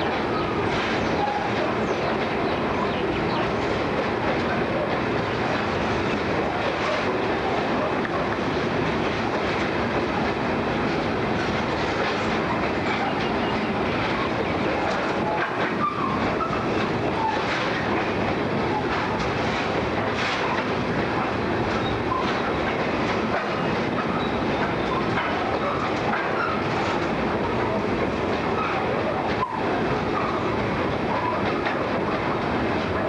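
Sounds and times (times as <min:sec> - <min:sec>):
freight wagons rumbling: 0:00.0 - 0:33.0
wheels clicking over rail joints: 0:00.0 - 0:33.0.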